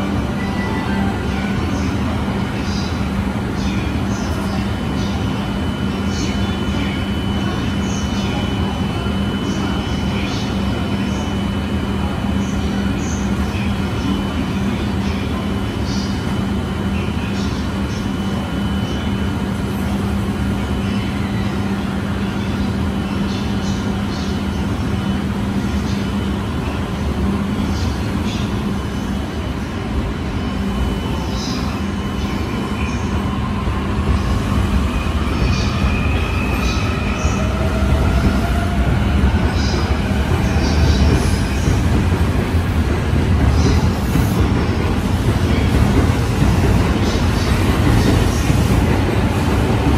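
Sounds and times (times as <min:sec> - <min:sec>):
electric train humming: 0:00.0 - 0:49.9.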